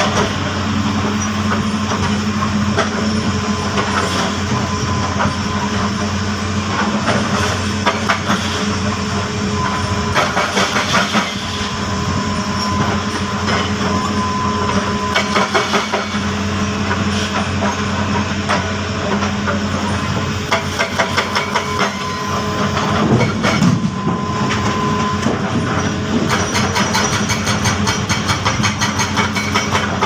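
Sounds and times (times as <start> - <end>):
heavy diesel machinery running: 0.0 - 30.0.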